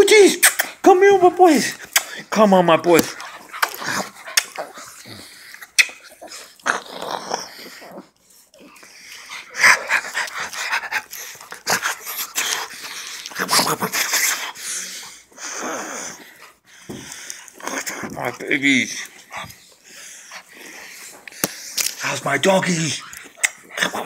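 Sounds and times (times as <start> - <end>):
dogs snuffling and breathing: 3.1 - 24.0.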